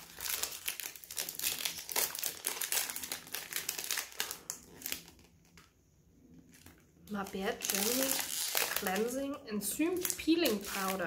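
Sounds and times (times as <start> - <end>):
wrapping paper crinkling: 0.0 - 5.7, 6.4 - 11.0.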